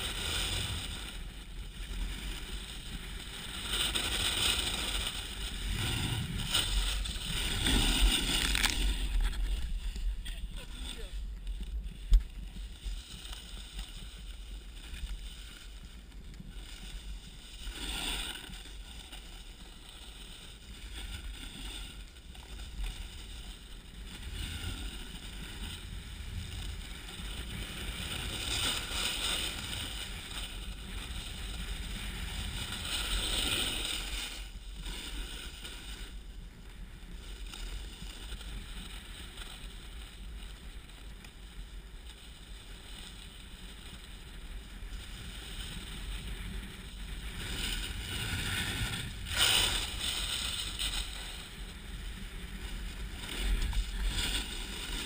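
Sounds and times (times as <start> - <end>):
snowboard sliding over snow: 0.0 - 55.0
wind rumble on microphone: 0.0 - 55.0.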